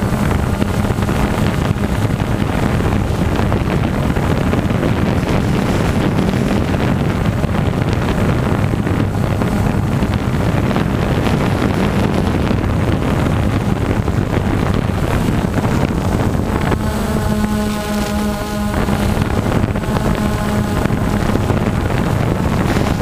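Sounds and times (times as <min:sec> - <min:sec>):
drone propellers buzzing: 0:00.0 - 0:23.0
wind rushing over microphone: 0:00.0 - 0:23.0.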